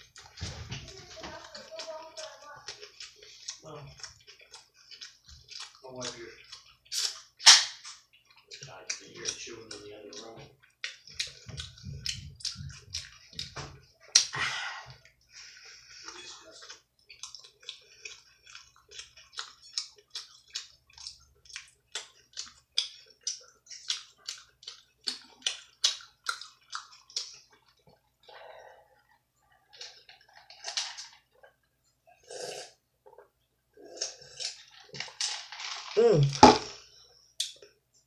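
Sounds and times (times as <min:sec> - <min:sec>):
wet open-mouthed chewing: 0:00.0 - 0:35.2.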